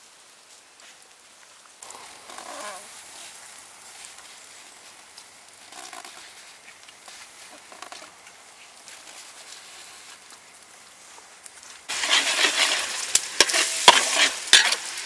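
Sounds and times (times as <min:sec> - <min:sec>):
charcoal embers hissing: 0:00.0 - 0:15.0.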